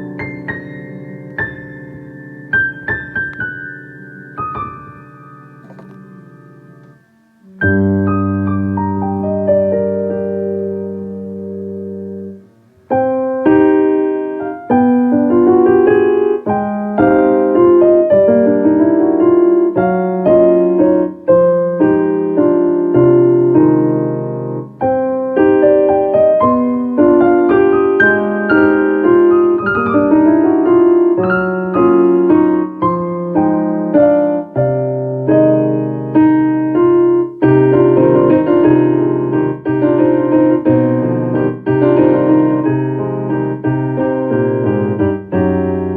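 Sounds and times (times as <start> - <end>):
solo piano melody: 0.0 - 45.9.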